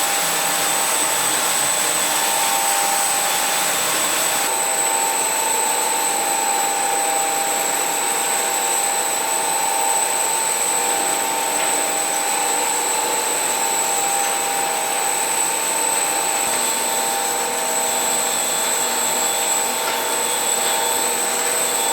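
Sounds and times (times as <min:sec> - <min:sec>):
carpet washing machine running: 0:00.0 - 0:21.9.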